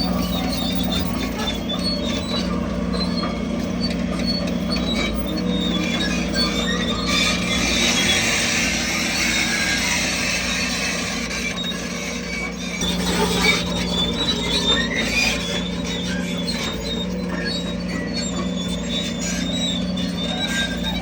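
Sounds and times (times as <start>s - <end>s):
bulldozer diesel engine drone: 0.0s - 21.0s
steel tracks squealing: 0.0s - 21.0s.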